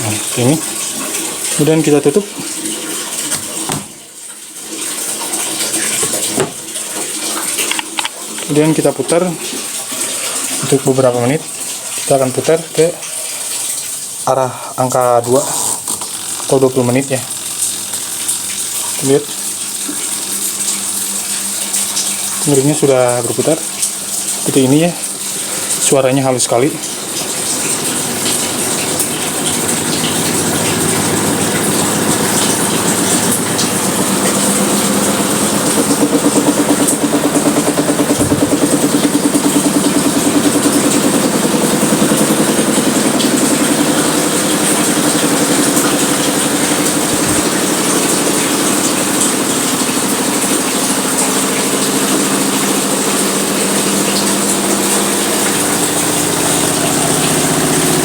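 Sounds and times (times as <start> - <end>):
washing machine churning: 0.0 - 58.0.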